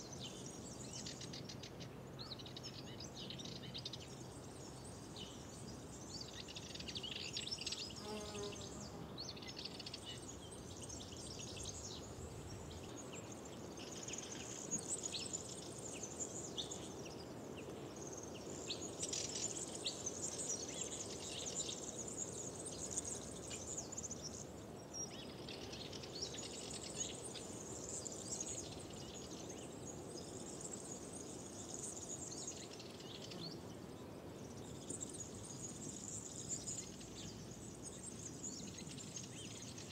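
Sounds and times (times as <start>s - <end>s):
small birds chirping and trilling: 0.0s - 39.9s
soft steady hiss: 0.0s - 39.9s.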